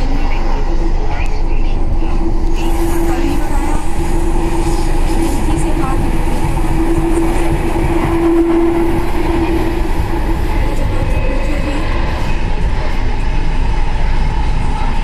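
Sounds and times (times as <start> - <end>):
steady whine: 0.0 - 15.0
train wheels rumbling on rails: 0.0 - 15.0.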